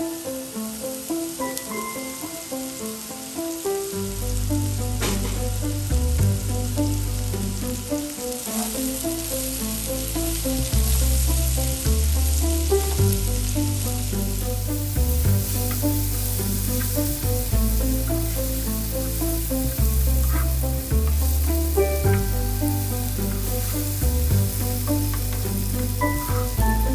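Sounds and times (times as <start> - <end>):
food sizzling in a pan: 0.0 - 26.9
background music with bass: 4.0 - 26.9.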